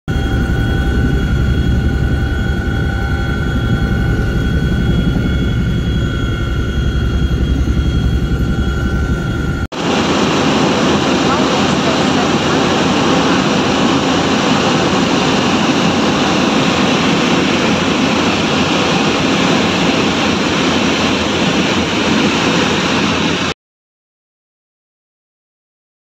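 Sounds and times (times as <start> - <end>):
aircraft engine and airflow noise: 0.1 - 23.6.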